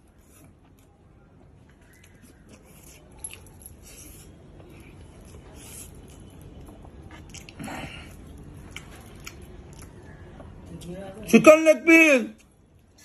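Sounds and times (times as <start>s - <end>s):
man chewing: 0.0s - 10.7s.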